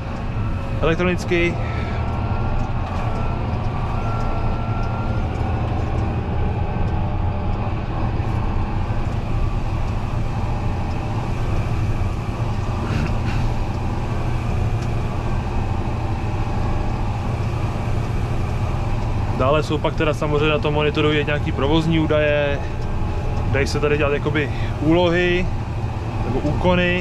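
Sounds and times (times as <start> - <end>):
tractor cab hum: 0.0 - 27.0.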